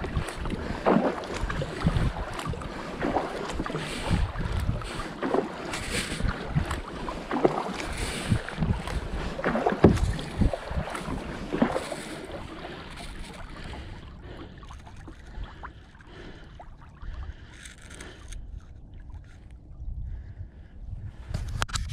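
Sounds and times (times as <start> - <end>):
paddle strokes splashing: 0.0 - 19.5
water lapping along hull: 0.0 - 21.9.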